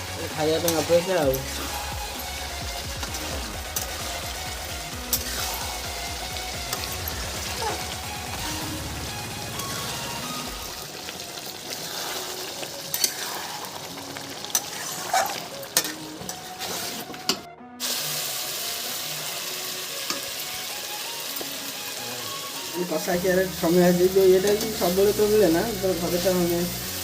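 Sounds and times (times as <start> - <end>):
curry sizzling in a pan: 0.0 - 27.0.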